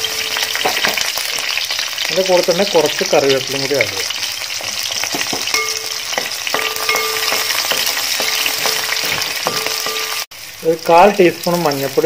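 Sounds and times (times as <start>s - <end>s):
food sizzling and crackling in oil: 0.0s - 12.0s.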